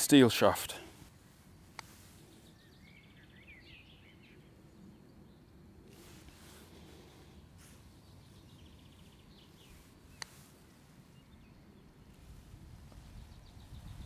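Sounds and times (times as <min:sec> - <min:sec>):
faint bird chirps: 0:01.7 - 0:14.0.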